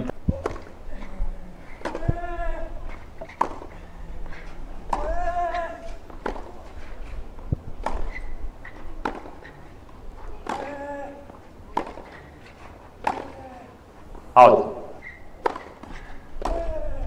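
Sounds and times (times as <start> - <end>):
racket striking tennis ball: 0.3 - 0.8, 1.7 - 13.6, 15.0 - 16.8.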